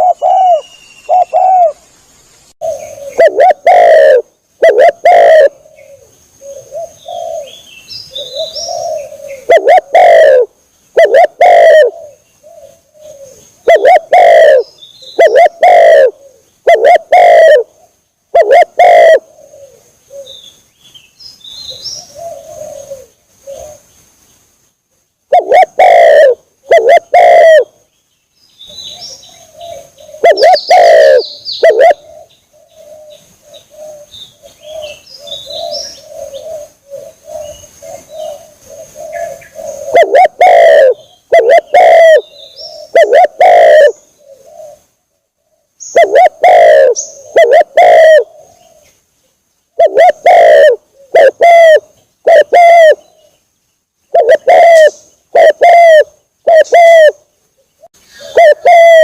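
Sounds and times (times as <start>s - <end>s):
dove cooing: 0.0s - 1.8s, 2.6s - 20.4s, 21.7s - 23.9s, 25.3s - 27.8s, 28.8s - 49.0s, 49.8s - 53.4s, 54.1s - 59.0s
small birds chirping: 0.0s - 16.9s, 26.6s - 59.0s.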